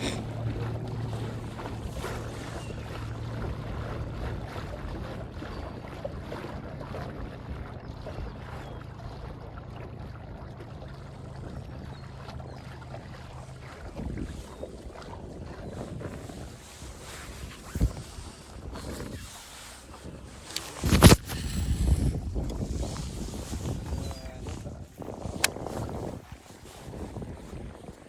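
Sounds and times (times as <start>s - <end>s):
outboard motor humming: 0.0s - 28.0s
water noise: 0.0s - 28.0s
wind: 0.0s - 28.0s.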